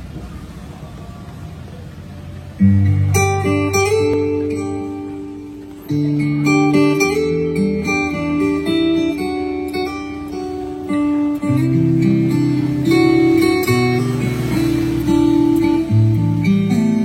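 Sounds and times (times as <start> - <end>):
acoustic guitar music: 0.0 - 17.0
low bass line: 2.6 - 17.0.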